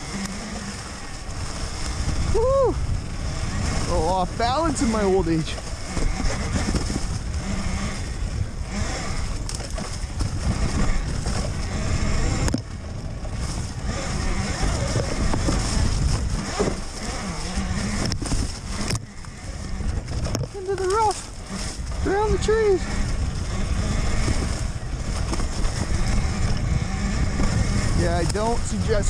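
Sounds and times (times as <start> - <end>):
wind and trail noise: 0.0 - 29.0
bike knocking on bumps: 3.8 - 29.0.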